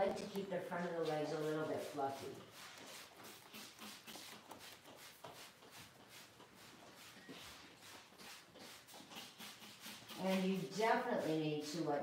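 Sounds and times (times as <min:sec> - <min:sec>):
spray bottle squirting: 0:00.0 - 0:11.4.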